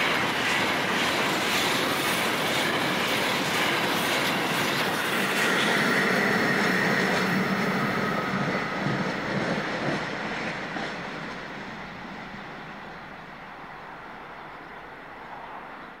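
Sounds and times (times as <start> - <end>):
high ringing from train wheels: 0.0 - 15.3
train wheels on rails: 0.0 - 16.0.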